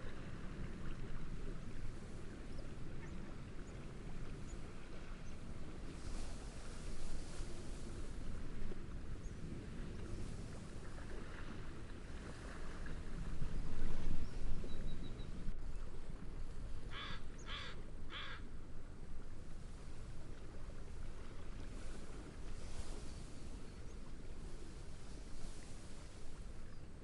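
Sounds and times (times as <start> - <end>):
gentle waves: 0.0 - 27.0
wind: 0.0 - 27.0.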